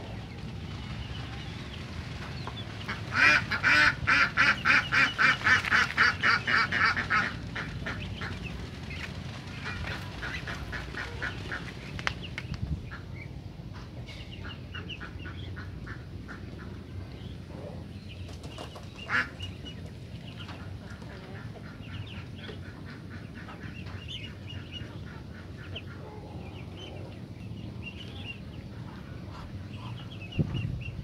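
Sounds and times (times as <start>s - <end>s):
ducks quacking: 2.6s - 12.1s, 12.8s - 17.8s, 18.9s - 27.2s, 27.8s - 30.9s.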